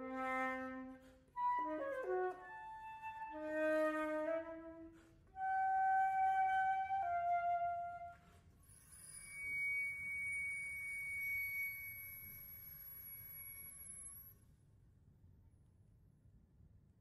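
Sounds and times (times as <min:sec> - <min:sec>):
flute notes: 0:00.0 - 0:14.3.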